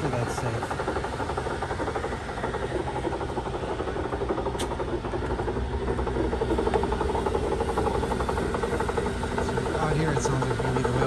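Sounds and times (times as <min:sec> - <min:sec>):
rough driveline drone: 0:00.0 - 0:11.0.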